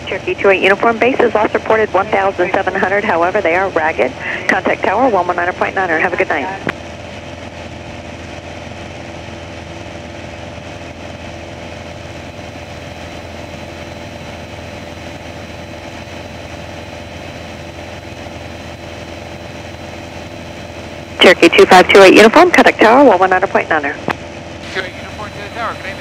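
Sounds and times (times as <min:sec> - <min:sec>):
aircraft engine and propeller droning: 0:00.0 - 0:26.0.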